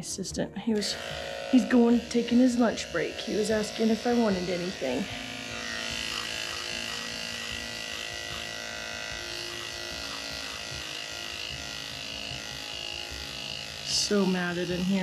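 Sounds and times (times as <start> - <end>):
electric clippers buzzing: 0.7 - 15.0.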